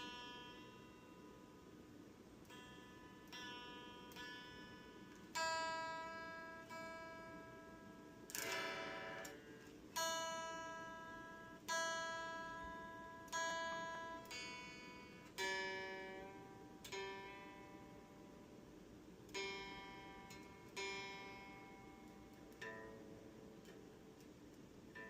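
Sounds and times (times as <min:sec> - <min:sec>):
electric guitar notes ringing out: 0:00.0 - 0:01.6, 0:02.4 - 0:24.3.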